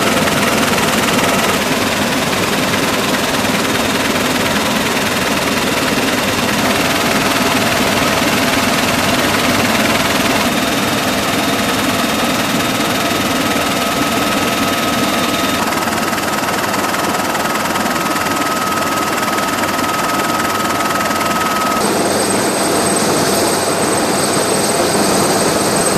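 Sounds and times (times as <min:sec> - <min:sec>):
helicopter rotors rushing: 0:00.0 - 0:25.9
higher-pitched helicopter whine: 0:00.0 - 0:25.9
turbine whine: 0:00.0 - 0:25.9.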